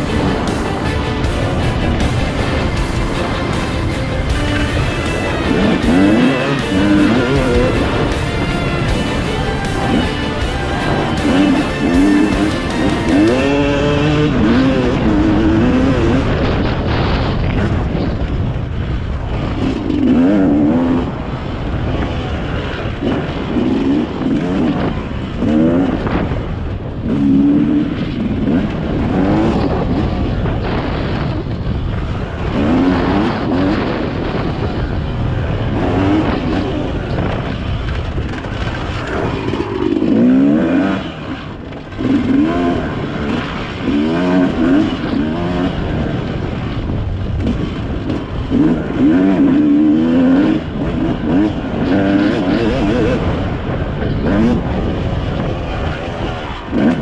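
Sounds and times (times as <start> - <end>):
dirt bike engine revving: 0.0 - 57.0
wind rush: 0.0 - 57.0.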